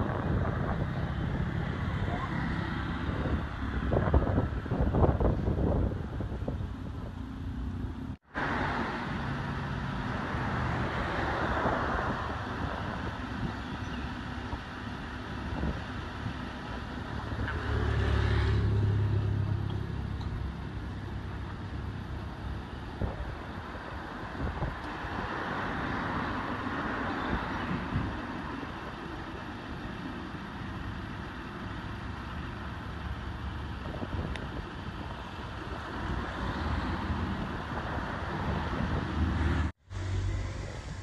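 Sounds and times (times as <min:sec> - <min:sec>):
rush of passing traffic: 0:00.0 - 0:41.0
vehicle engine rumble passing: 0:00.0 - 0:41.0.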